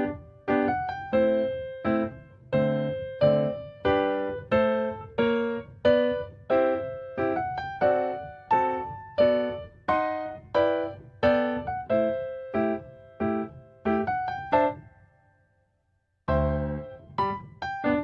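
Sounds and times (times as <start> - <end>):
slow piano music: 0.0 - 15.4, 16.3 - 18.0.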